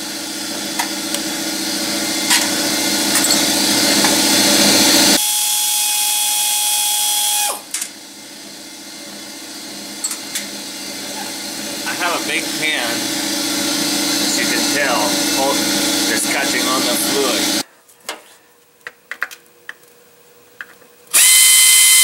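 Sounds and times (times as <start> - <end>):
power ratchet whirring: 0.0 - 17.6, 21.1 - 22.0.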